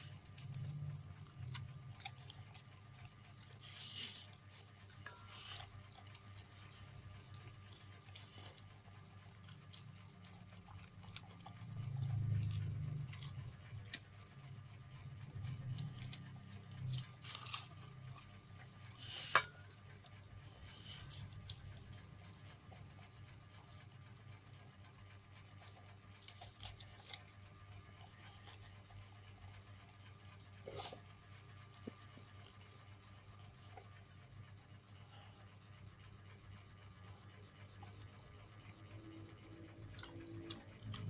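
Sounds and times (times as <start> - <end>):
dog chewing and crunching food: 0.0 - 41.0
faint low hum: 0.0 - 41.0.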